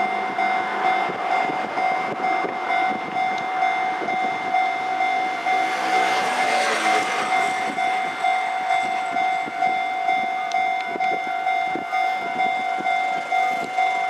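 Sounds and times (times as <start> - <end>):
level-crossing bell ringing: 0.0 - 14.0
railcar rumbling: 0.0 - 14.0.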